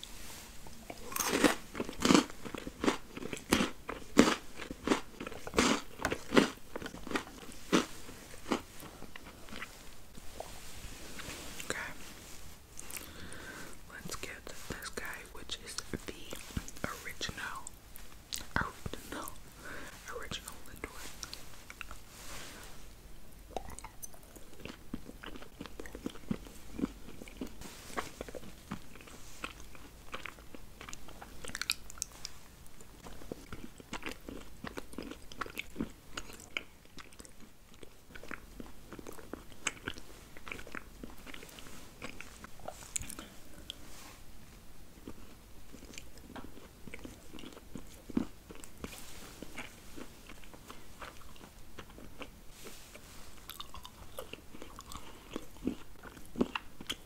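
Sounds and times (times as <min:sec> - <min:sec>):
chewing and crunching chocolate: 0:00.7 - 0:10.5, 0:12.7 - 0:22.1, 0:22.7 - 0:43.9, 0:44.9 - 0:57.0.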